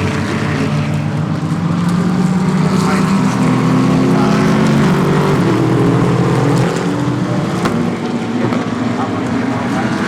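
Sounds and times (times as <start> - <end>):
race car engines passing: 0.0 - 10.0.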